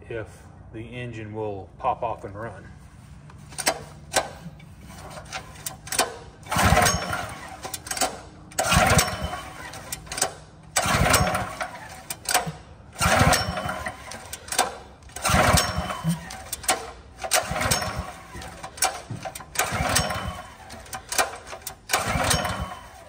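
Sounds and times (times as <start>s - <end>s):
engine pull-start cranking: 3.4s - 23.0s.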